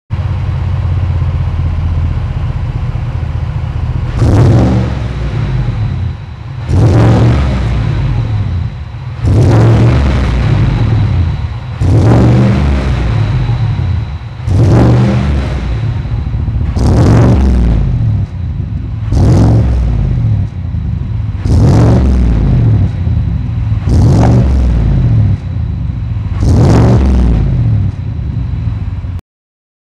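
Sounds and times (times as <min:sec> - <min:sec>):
car engine idling: 0:00.1 - 0:29.2
car engine revving: 0:00.2 - 0:29.2.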